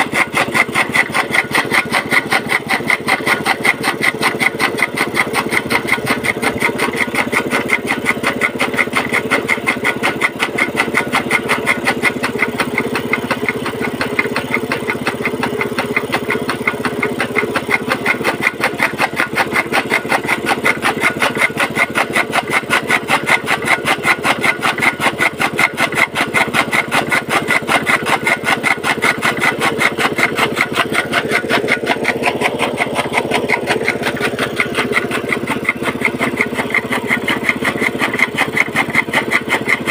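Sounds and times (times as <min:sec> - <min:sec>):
fodder cutter chopping: 0:00.0 - 0:39.9
small petrol engine running: 0:00.0 - 0:39.9.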